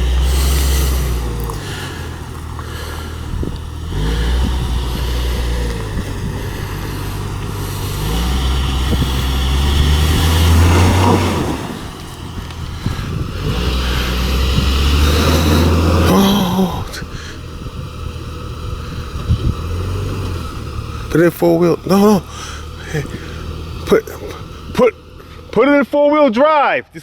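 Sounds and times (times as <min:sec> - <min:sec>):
car engine revving: 0:00.0 - 0:26.2.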